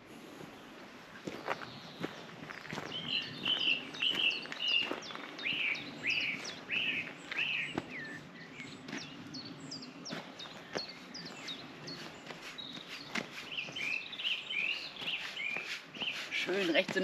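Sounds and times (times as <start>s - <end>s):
high bird chirps: 1.4s - 17.0s.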